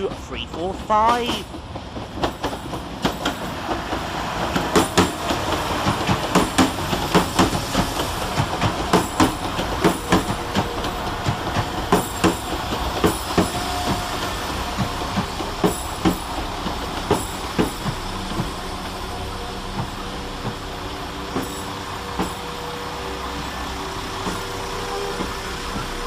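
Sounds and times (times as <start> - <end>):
train running noise: 0.0 - 26.0
train wheels clicking over rail joints: 0.0 - 26.0.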